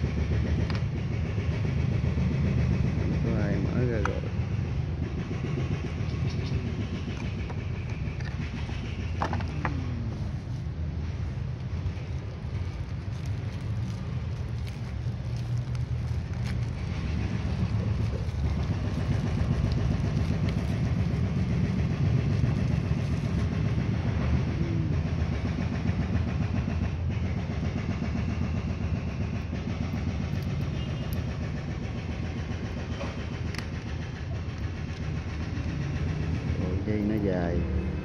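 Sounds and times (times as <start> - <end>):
low background rumble: 0.0 - 37.2.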